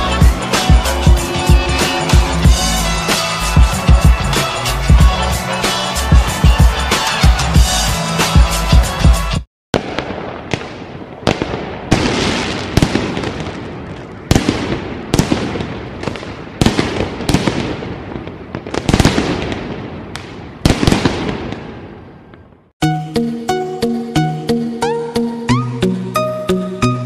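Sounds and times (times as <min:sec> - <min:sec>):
fireworks bangs and crackling: 0:00.0 - 0:22.7.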